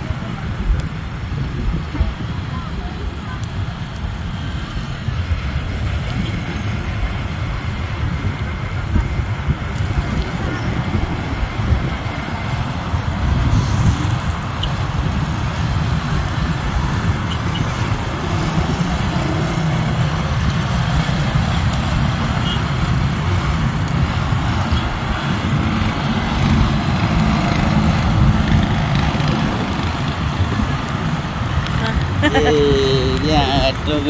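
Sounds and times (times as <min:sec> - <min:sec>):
engine rumbling: 0:00.0 - 0:34.0.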